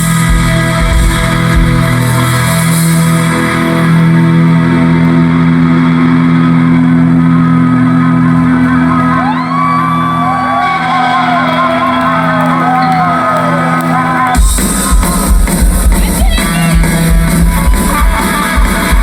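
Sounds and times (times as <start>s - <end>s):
lead guitar line bending: 0.0s - 11.4s, 13.9s - 19.0s
rock band held chord: 0.0s - 19.0s.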